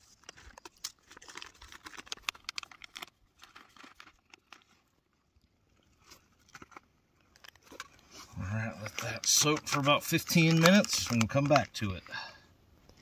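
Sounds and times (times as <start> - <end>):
foil pouch crinkling: 0.0 - 12.3.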